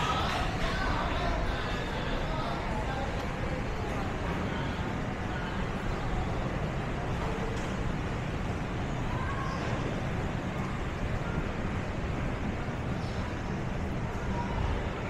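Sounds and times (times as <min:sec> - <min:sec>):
faint voices of passers-by: 0:00.0 - 0:15.0
road traffic rumble: 0:00.0 - 0:15.0.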